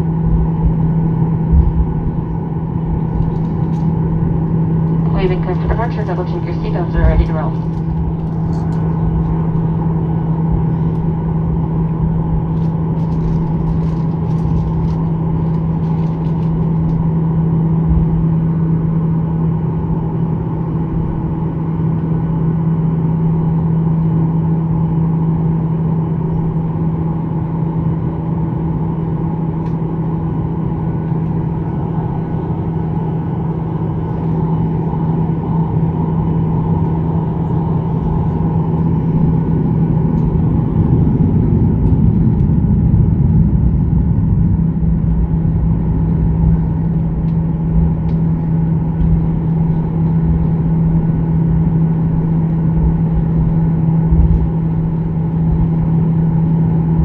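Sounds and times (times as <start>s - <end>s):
jet engines droning in cabin: 0.0s - 57.0s.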